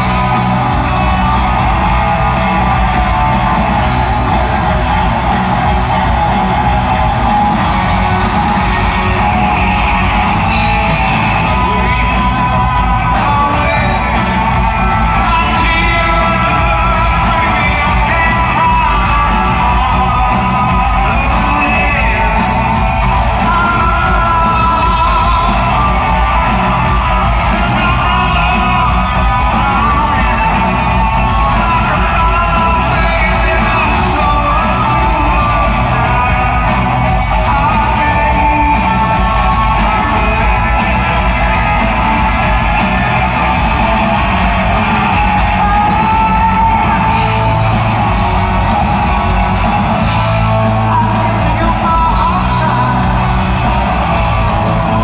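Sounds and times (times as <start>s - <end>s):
drums: 0.0s - 55.0s
electric guitar: 0.0s - 55.0s
man singing: 0.0s - 55.0s.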